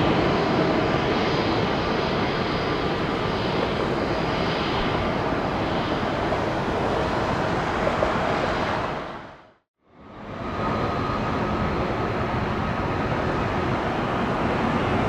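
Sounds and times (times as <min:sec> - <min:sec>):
jet engine roar with whine: 0:00.0 - 0:15.0.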